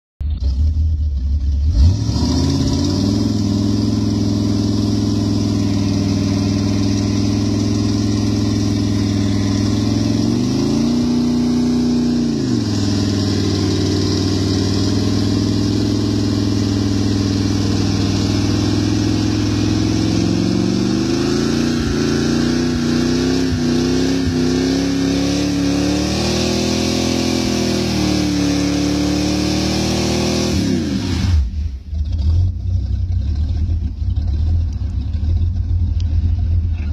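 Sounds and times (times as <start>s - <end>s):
car engine revving: 0.3s - 36.9s.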